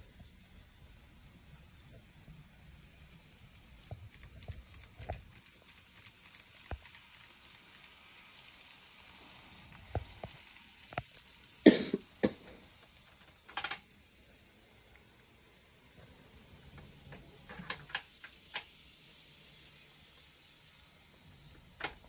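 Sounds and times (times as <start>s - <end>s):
model train whirring: 0.0s - 22.0s.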